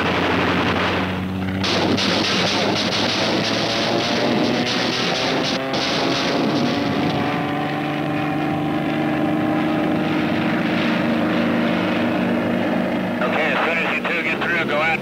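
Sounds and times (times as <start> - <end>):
military aircraft engine drone: 0.0 - 15.0.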